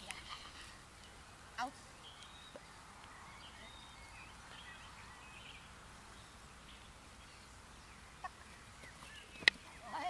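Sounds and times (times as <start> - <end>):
outdoor background hiss: 0.0 - 10.0
faint bird chirps: 0.3 - 10.0.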